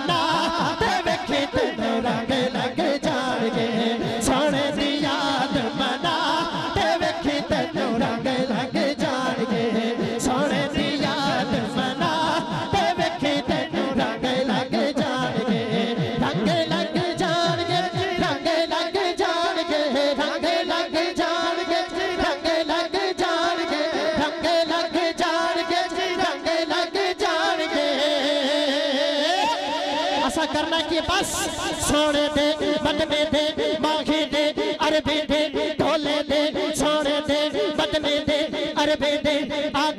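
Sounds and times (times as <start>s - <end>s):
man singing into a microphone: 0.0s - 39.9s.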